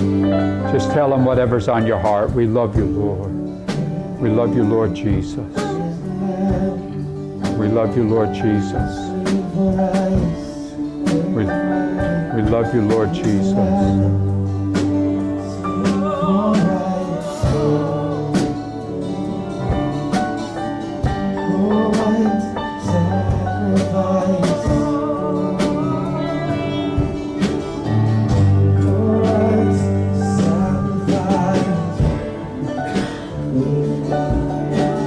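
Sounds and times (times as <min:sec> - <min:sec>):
voices singing: 0:00.0 - 0:35.0
worship band playing slow song: 0:00.0 - 0:35.0.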